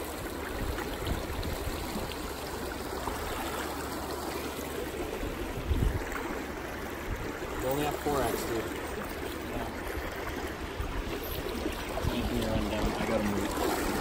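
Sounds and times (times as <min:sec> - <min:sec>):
river water running over rocks: 0:00.0 - 0:14.0.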